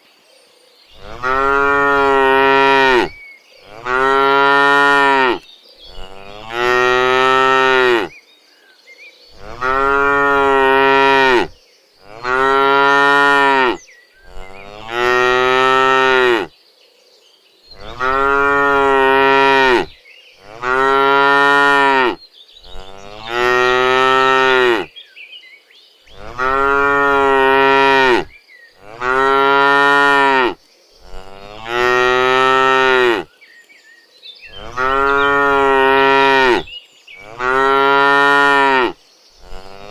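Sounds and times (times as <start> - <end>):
cattle mooing: 1.0 - 8.1, 9.4 - 16.5, 17.8 - 24.9, 26.2 - 33.3, 34.5 - 39.9.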